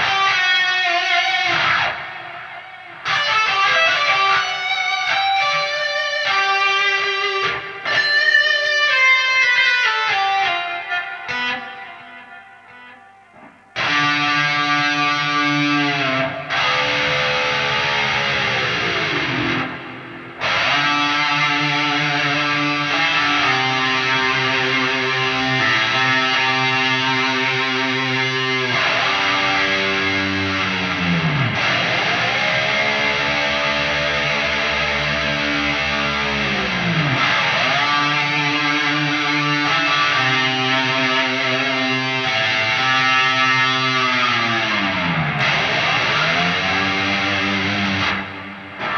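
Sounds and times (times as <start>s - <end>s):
distorted electric guitar lead: 0.0s - 48.9s.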